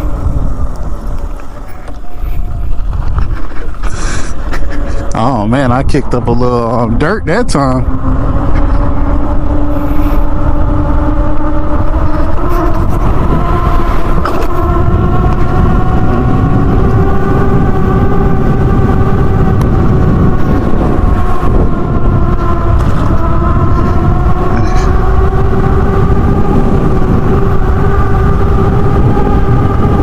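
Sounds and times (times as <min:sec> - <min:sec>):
electric motorbike motor whine: 0:00.0 - 0:30.0
wind rumble on microphone: 0:00.0 - 0:30.0.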